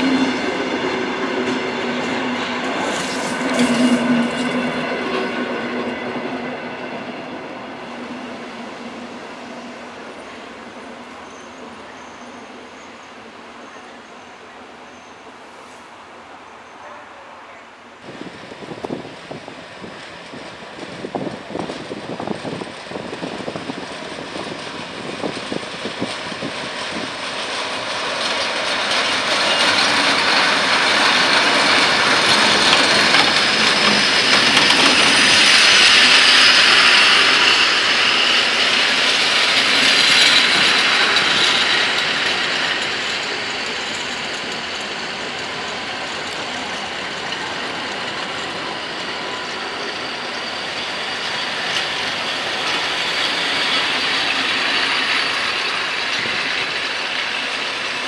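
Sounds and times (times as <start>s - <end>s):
train wheels rattling on track: 0.0s - 15.3s, 18.0s - 58.0s.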